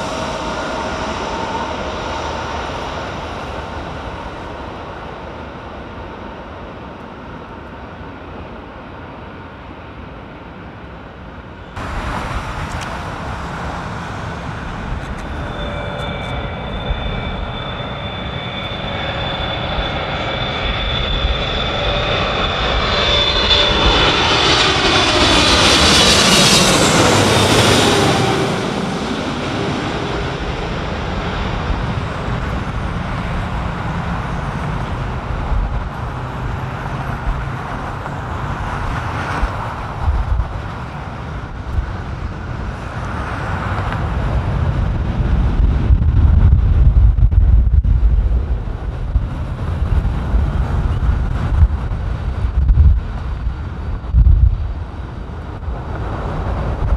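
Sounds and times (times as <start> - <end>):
jet airliner passing overhead: 0.0 - 56.9.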